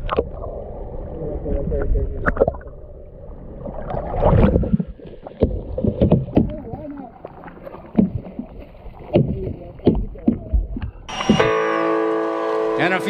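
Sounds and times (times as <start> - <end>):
water splashing and sloshing: 0.0 - 11.5.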